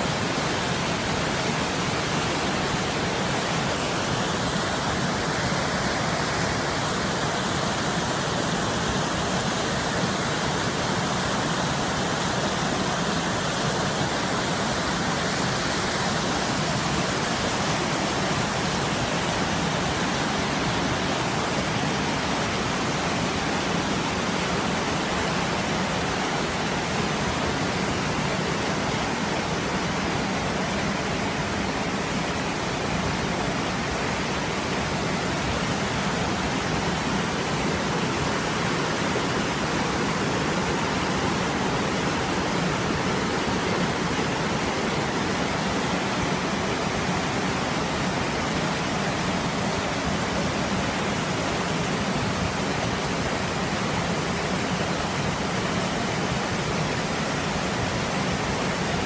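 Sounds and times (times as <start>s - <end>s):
stream rushing over boulders: 0.0s - 59.0s.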